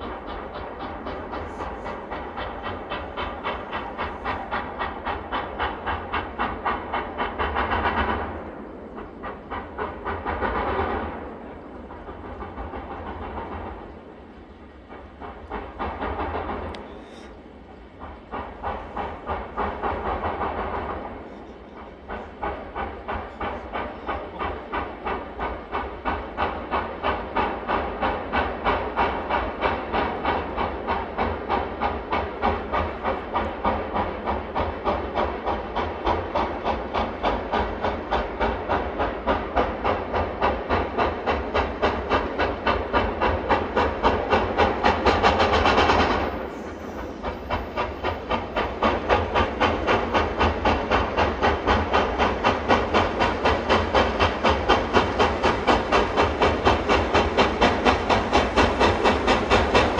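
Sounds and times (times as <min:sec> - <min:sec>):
steam locomotive exhaust chuffing: 0:00.0 - 0:59.9.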